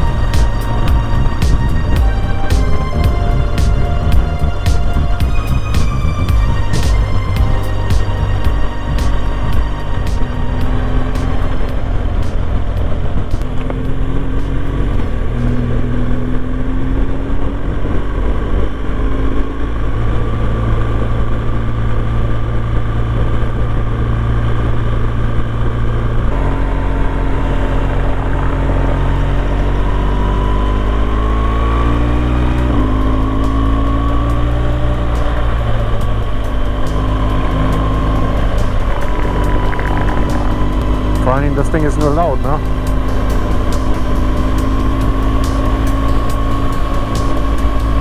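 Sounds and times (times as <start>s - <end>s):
motorcycle engine revving through gears: 0.0s - 48.0s.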